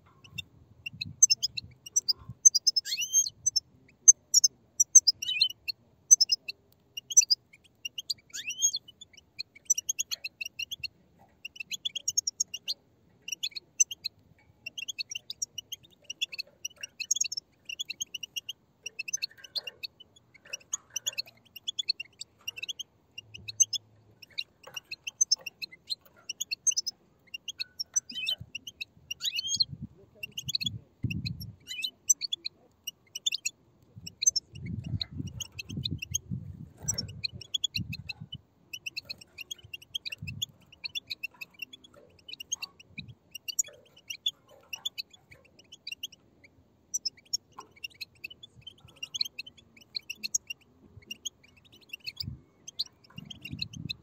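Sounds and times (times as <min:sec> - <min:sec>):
bird chicks chirping: 0:00.0 - 0:54.0.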